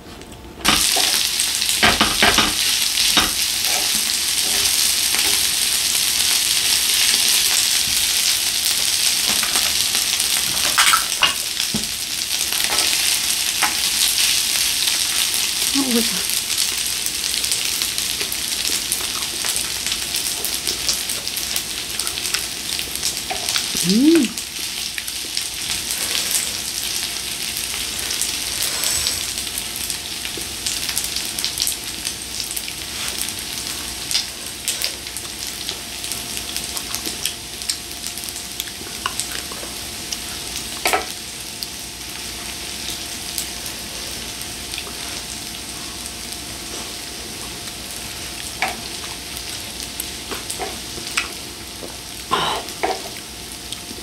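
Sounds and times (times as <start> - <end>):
food sizzling on grill plate: 0.6 - 54.0.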